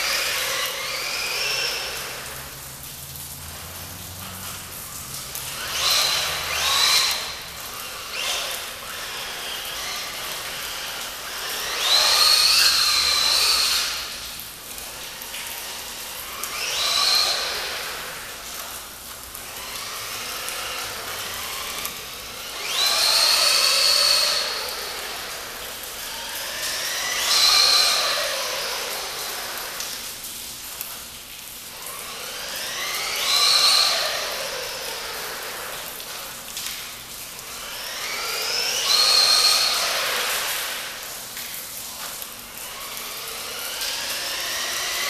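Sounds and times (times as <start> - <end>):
electric motor and gears whining: 0.0 - 30.9, 31.6 - 45.0.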